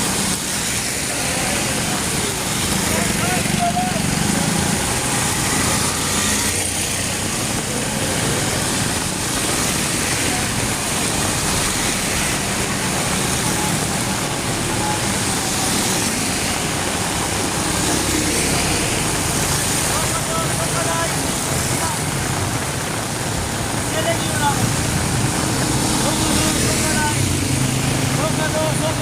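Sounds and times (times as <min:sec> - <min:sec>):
heavy rain hissing: 0:00.0 - 0:29.0
vehicle engines in traffic: 0:00.0 - 0:29.0.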